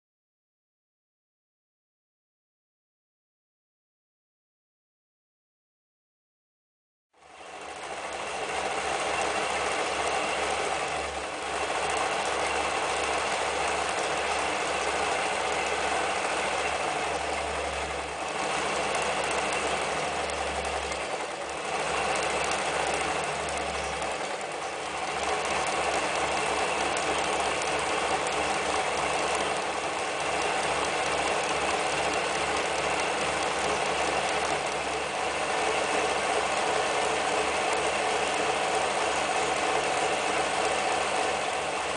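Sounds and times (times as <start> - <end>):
electric sewing machine running: 7.2 - 41.9.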